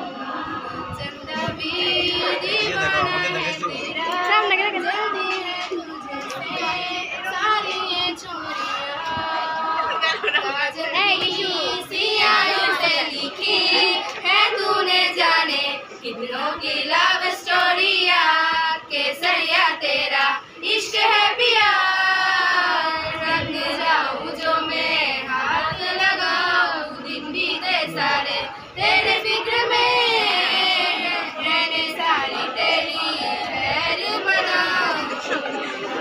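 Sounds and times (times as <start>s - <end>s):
girls singing unaccompanied: 0.0s - 36.0s.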